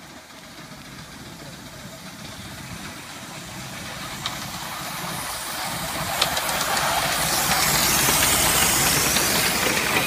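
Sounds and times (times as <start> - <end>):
miniature steam locomotive running: 0.0 - 10.0.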